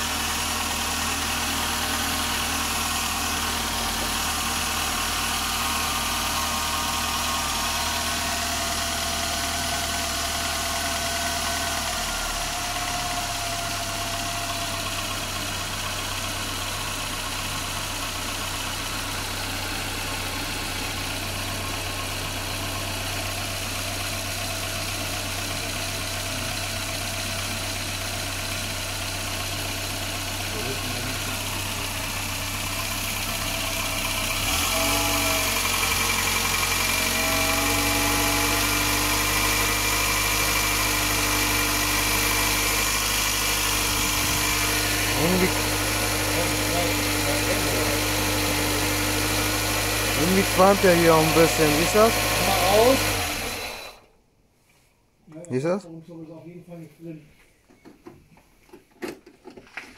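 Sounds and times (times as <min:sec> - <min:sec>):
car engine idling: 0:00.0 - 0:54.2.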